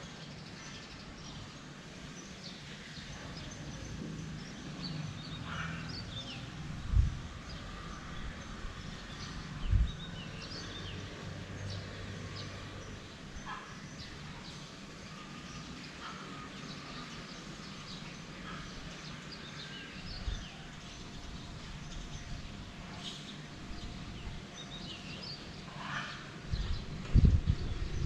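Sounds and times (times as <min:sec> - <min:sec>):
birds chirping: 0:00.3 - 0:28.0.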